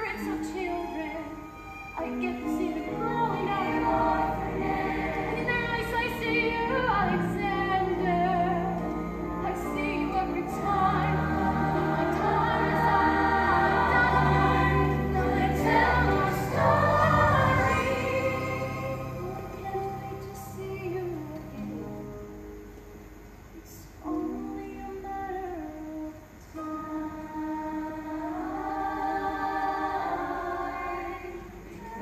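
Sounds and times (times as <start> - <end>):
choir singing: 0.0 - 20.6, 26.8 - 32.0
musical accompaniment: 0.0 - 32.0.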